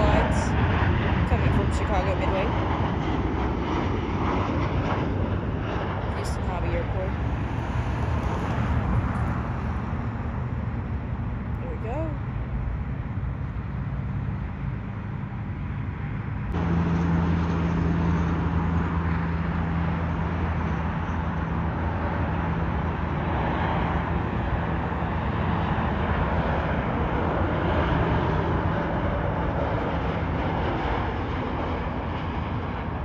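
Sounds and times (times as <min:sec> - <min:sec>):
jet airliner landing: 0:00.0 - 0:33.0.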